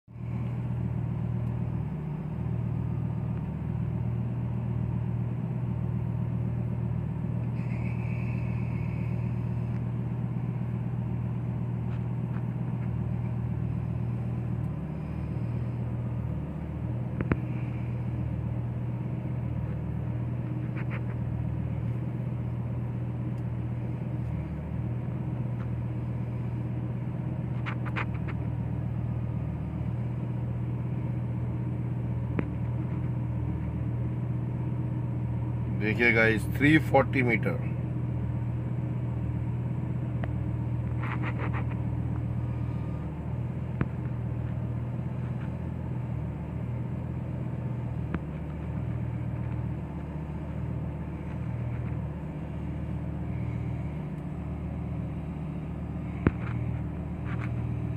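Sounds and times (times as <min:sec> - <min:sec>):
sports car engine idling: 0:00.1 - 0:57.9.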